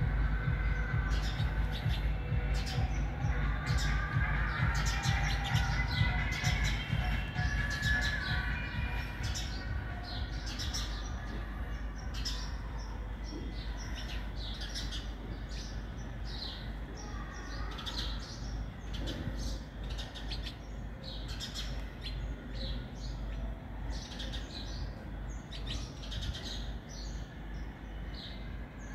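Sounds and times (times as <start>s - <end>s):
small birds chirping: 0.0s - 28.9s
steady low rumble: 0.0s - 28.9s.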